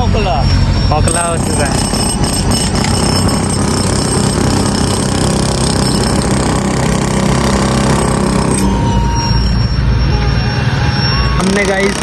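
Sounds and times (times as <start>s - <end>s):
construction machinery running: 0.0s - 12.0s.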